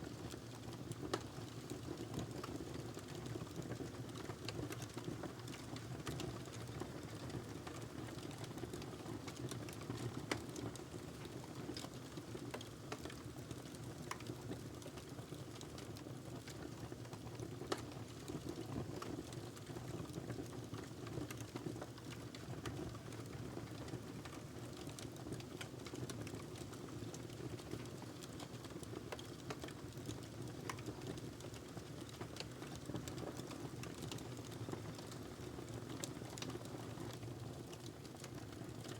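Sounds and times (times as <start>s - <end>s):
wood fire crackles and pops: 0.1s - 38.9s.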